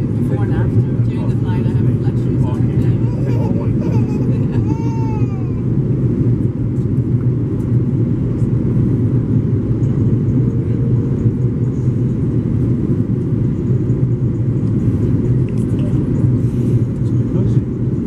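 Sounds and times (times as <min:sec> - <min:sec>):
airflow noise: 0:00.0 - 0:18.0
jet engines droning: 0:00.0 - 0:18.0.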